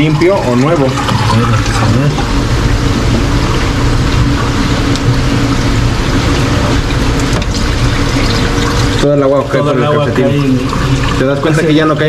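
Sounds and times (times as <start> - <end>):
low steady hum: 0.0 - 12.0
water pouring into a tank: 0.0 - 12.0.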